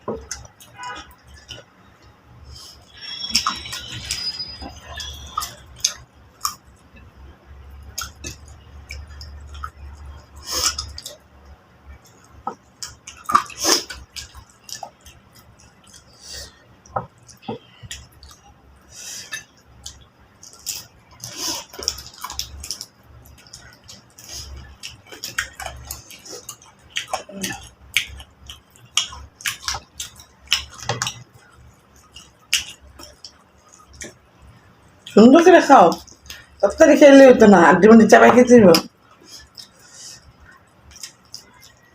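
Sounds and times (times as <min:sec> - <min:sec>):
person chewing: 0:00.1 - 0:11.2, 0:11.9 - 0:35.2, 0:38.9 - 0:41.9.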